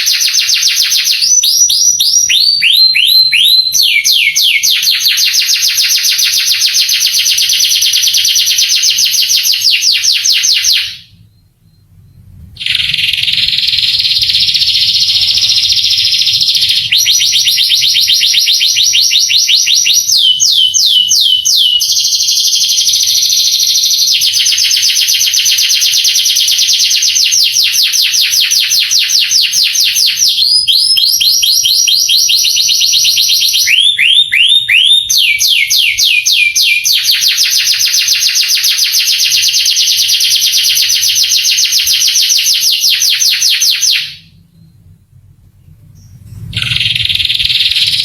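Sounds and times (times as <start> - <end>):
canary singing trills: 0.0 - 44.8, 45.8 - 48.0.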